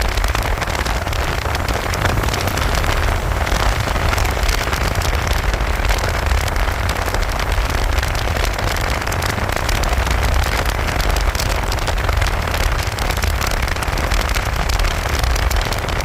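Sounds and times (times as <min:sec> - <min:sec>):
rain crackling on microphone: 0:00.0 - 0:16.0
wind rushing over microphone: 0:00.0 - 0:16.0.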